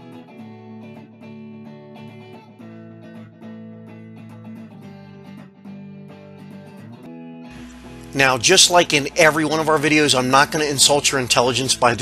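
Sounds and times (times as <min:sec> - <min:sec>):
strummed and plucked guitar tune: 0:00.0 - 0:12.0.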